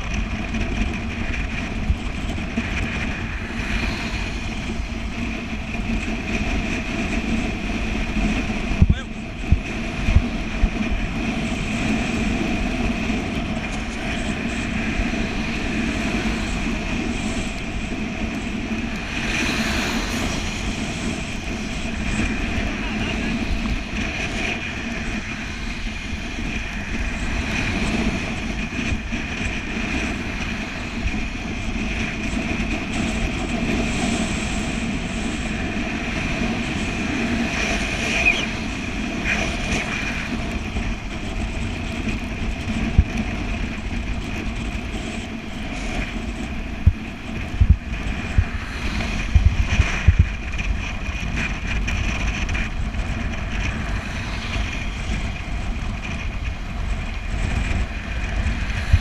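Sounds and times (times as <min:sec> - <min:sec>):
bicycle riding noise: 0:00.0 - 0:59.0
low rumble: 0:00.0 - 0:59.0
wind buffeting microphone: 0:00.0 - 0:59.0.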